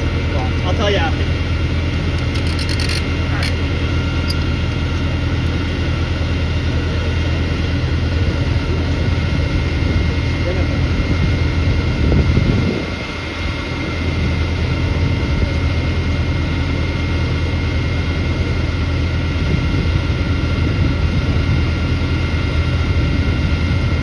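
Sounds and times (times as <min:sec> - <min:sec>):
engine drone: 0:00.0 - 0:24.0
thin steady whine: 0:00.0 - 0:24.0.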